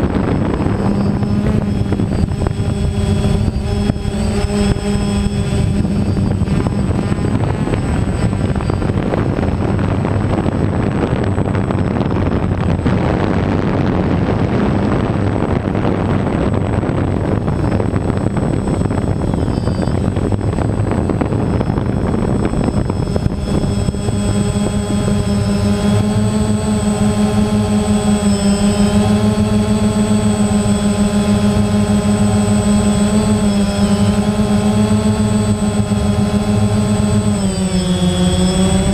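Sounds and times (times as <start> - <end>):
drone propellers whirring: 0.0 - 38.9.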